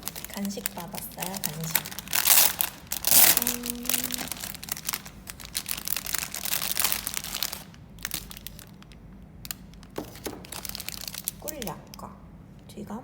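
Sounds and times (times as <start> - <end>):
snack packaging crinkling: 0.0 - 12.0.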